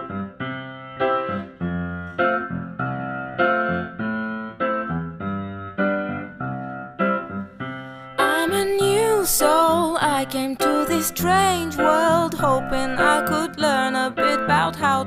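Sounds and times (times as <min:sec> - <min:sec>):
keyboard chords: 0:00.0 - 0:15.0.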